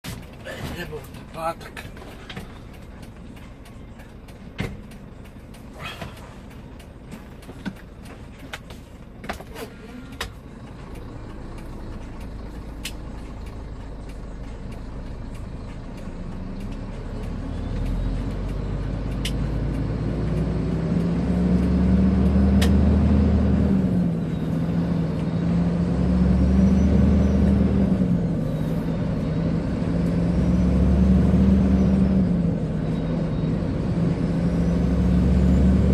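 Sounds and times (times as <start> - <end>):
truck diesel engine accelerating: 0.0 - 35.9.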